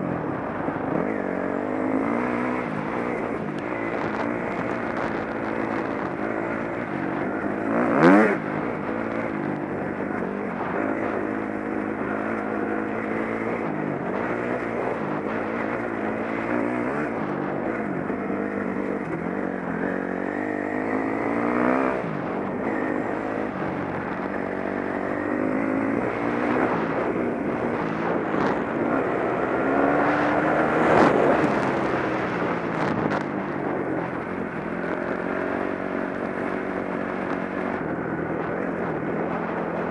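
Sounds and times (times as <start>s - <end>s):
dirt bike engine revving: 1.0s - 33.2s.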